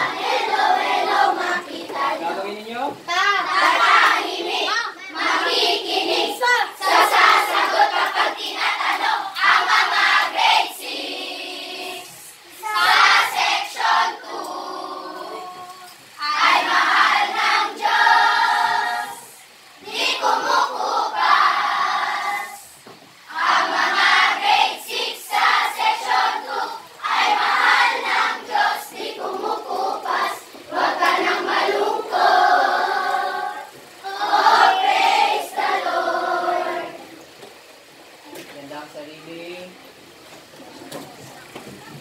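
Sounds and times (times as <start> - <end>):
children singing together: 0.0 - 2.4, 3.1 - 37.5.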